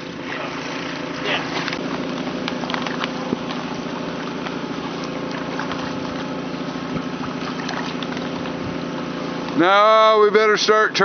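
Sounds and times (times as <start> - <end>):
water pumps engine drone: 0.0 - 11.0.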